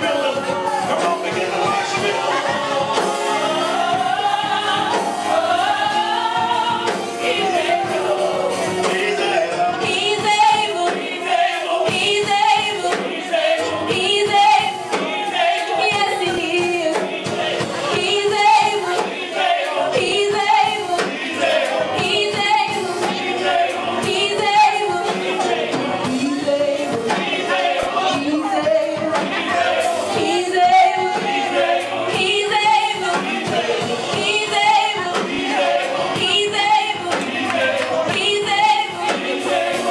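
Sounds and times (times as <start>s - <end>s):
choir singing with vibrato: 0.0s - 39.9s
instrumental backing: 0.0s - 39.9s.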